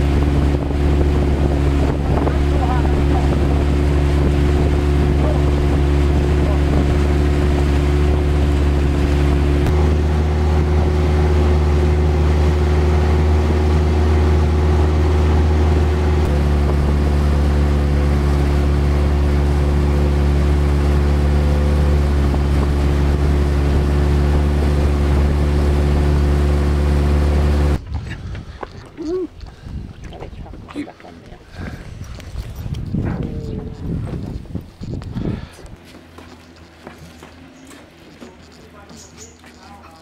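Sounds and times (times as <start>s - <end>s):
water and wind rushing: 0.0s - 35.8s
boat engine humming: 0.0s - 40.0s.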